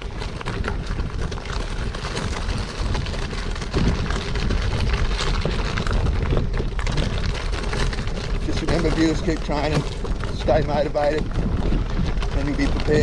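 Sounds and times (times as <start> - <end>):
bicycle rattling on rough trail: 0.0 - 13.0
wind buffeting microphone: 0.0 - 13.0.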